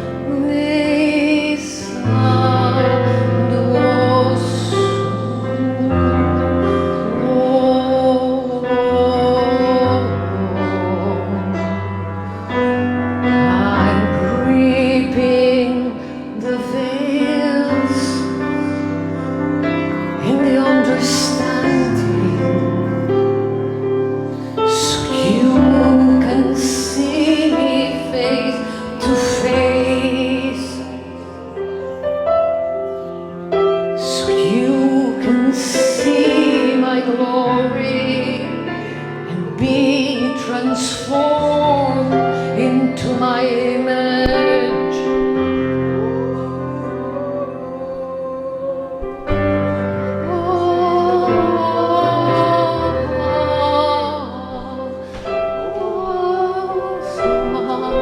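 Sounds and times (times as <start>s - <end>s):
woman singing: 0.0s - 32.3s, 33.1s - 58.0s.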